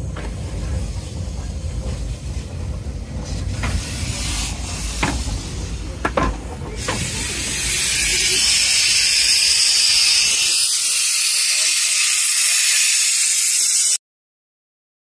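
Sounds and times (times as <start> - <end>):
steam hissing from locomotive: 0.4 - 14.0.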